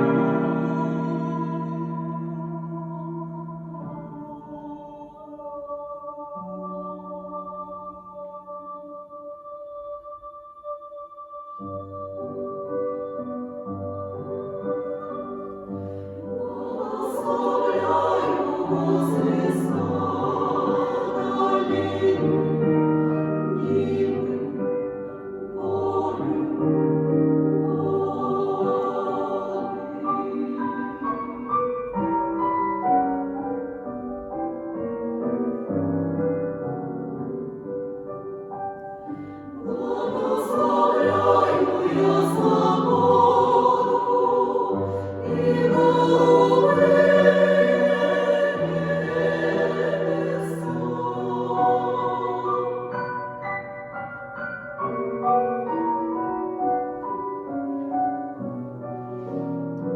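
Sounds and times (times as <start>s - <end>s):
piano accompaniment: 0.0s - 8.8s, 11.6s - 59.9s
women's choir singing: 0.0s - 33.8s, 39.0s - 53.9s.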